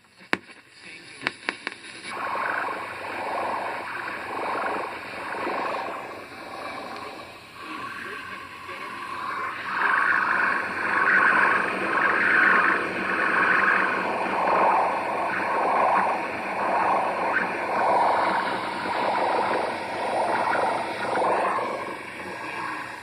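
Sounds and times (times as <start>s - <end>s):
radio pulsing buzzing hiss: 0.0s - 23.0s.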